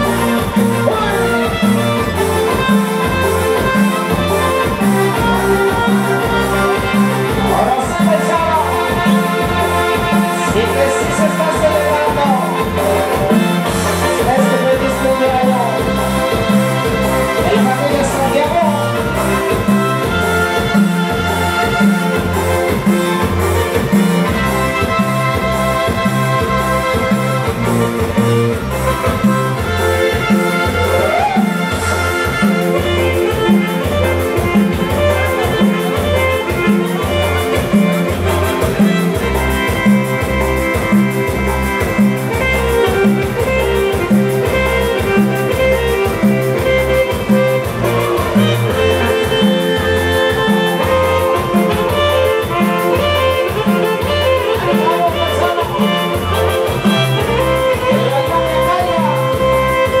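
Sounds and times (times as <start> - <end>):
dance band music: 0.0 - 60.0.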